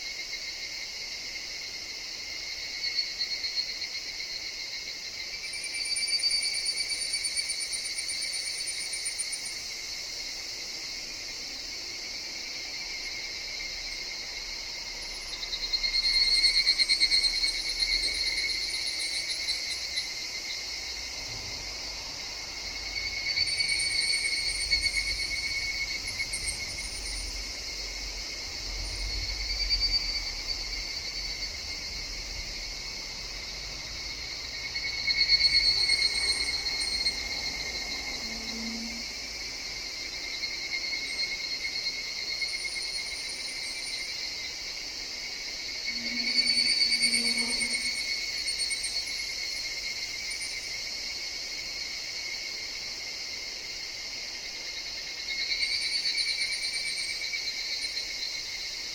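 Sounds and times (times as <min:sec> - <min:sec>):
cicadas ringing calls: 0:00.0 - 0:58.9
steady insect drone: 0:00.0 - 0:58.9.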